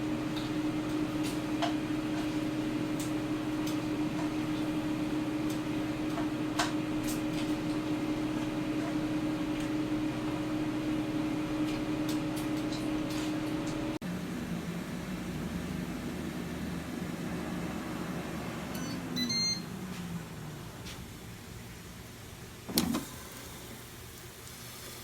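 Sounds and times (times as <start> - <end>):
air fryer fan humming: 0.0 - 25.0.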